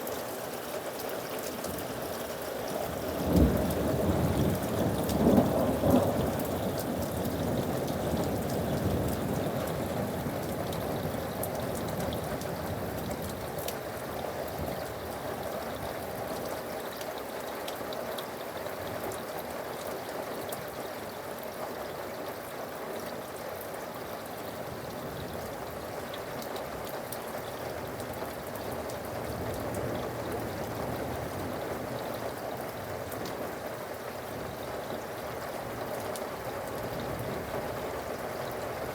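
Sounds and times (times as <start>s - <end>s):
raindrops ticking on a surface: 0.0s - 38.9s
steady rain: 0.0s - 38.9s.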